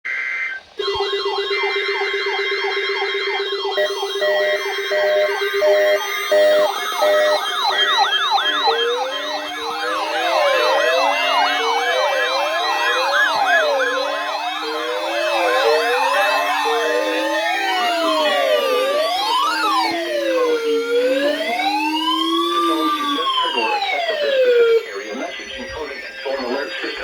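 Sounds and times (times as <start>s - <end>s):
electronic sirens wailing: 0.1s - 27.0s
pulsing beep: 0.1s - 27.0s.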